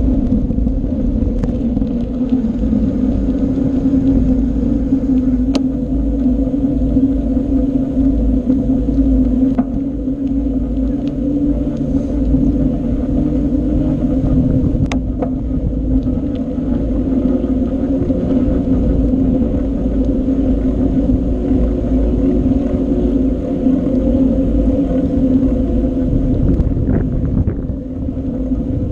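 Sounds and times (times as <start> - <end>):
bicycle rumble and hum: 0.0 - 28.9.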